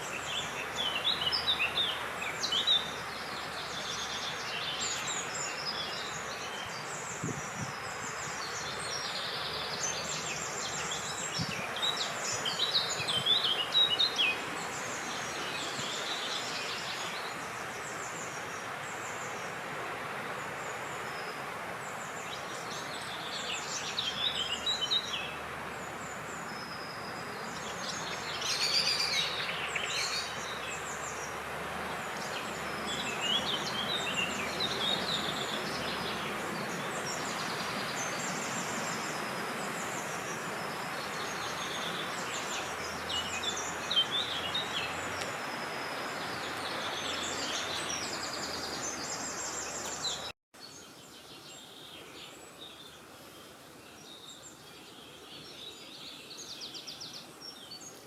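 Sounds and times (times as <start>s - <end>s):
wind hiss: 0.0s - 54.4s
songbirds chirping: 0.0s - 58.0s.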